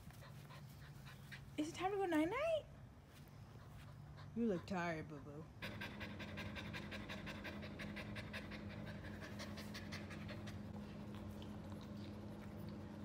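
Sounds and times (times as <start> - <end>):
puppy panting quickly: 0.0 - 1.8, 3.5 - 12.8.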